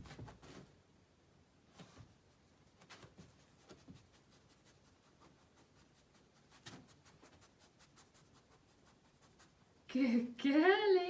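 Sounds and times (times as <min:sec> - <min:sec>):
faint scratches and rustles: 0:00.0 - 0:00.8, 0:01.6 - 0:09.9.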